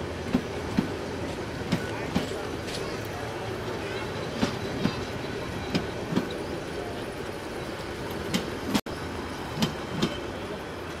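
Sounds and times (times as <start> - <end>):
train wheels rumbling on rail: 0.0 - 11.0
wheels clacking over rail joints: 0.0 - 11.0.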